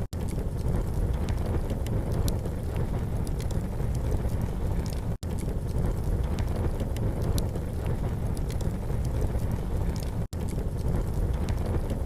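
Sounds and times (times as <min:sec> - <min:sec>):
campfire crackling and popping: 0:00.0 - 0:12.0
wind rumble on microphone: 0:00.0 - 0:12.0.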